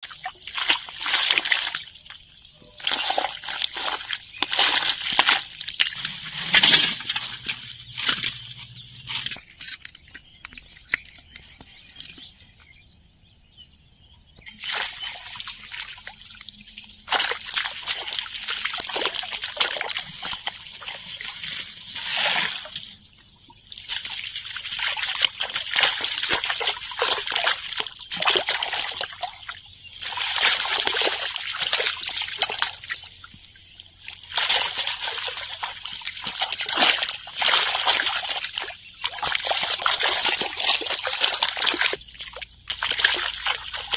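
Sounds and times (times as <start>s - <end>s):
water splashing and sloshing: 0.0s - 12.4s, 14.4s - 43.9s.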